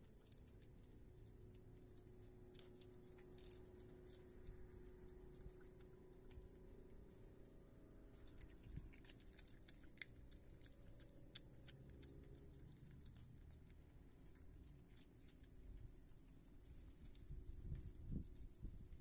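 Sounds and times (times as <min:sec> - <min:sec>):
animal chewing wet smacking: 0:00.0 - 0:18.6
faint low hum: 0:00.0 - 0:19.0.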